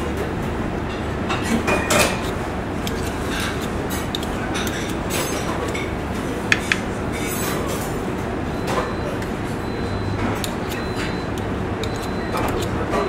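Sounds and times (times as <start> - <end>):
kitchen background noise: 0.0 - 13.0.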